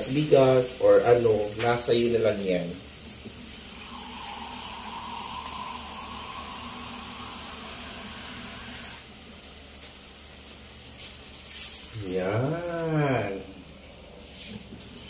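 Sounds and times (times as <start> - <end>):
fish sizzling in a pot: 0.0 - 13.4, 14.2 - 15.0.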